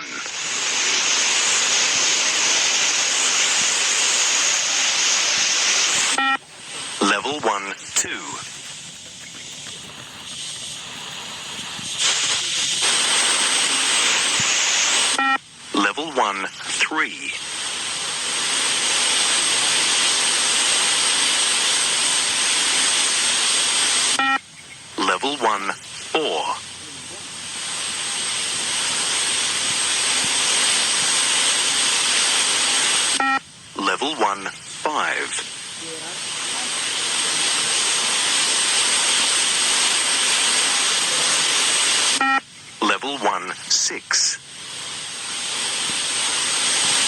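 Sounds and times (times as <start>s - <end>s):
steady static hiss: 0.0s - 47.0s.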